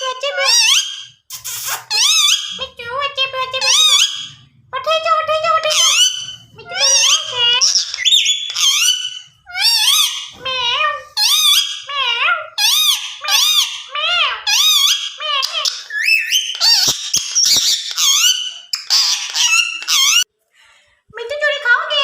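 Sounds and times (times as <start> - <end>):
parrot chattering: 0.0 - 20.3.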